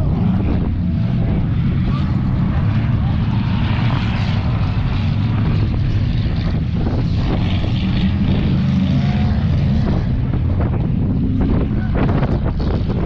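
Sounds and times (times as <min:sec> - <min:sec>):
car engines racing: 0:00.0 - 0:13.0.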